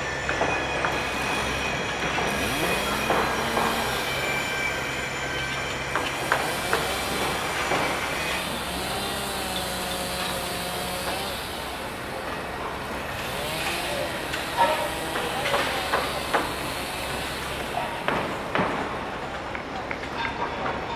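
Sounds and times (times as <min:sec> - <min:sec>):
heavy machinery humming: 0:00.0 - 0:20.9.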